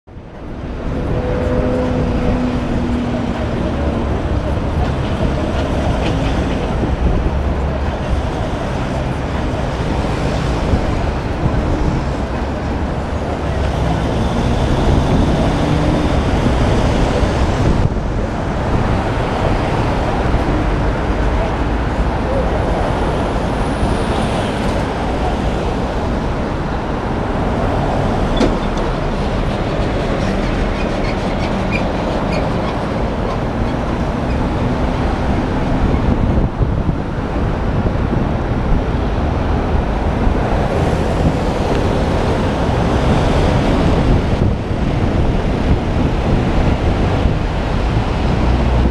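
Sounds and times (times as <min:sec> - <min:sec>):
cars passing: 0:00.1 - 0:48.9
tyres rumbling on road: 0:00.1 - 0:48.9
wind noise: 0:00.1 - 0:48.9.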